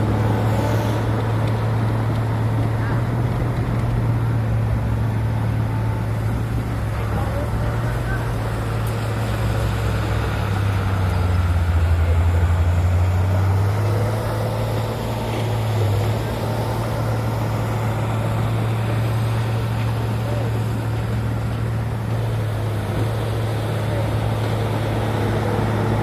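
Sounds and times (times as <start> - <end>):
heavy machinery diesel engine: 0.0 - 26.0.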